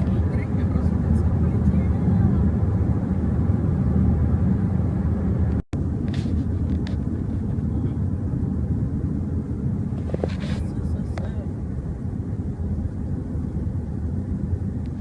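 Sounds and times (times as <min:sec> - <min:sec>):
car road rumble from cabin: 0:00.0 - 0:15.0.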